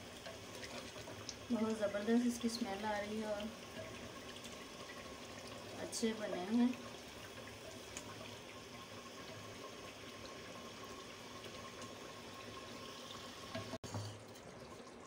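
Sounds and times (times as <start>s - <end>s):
pot simmering hiss: 0.0s - 15.0s.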